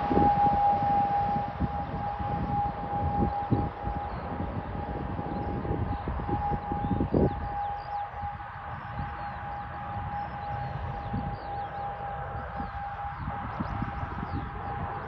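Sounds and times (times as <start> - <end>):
airliner engine whine and rumble: 0.0 - 15.0.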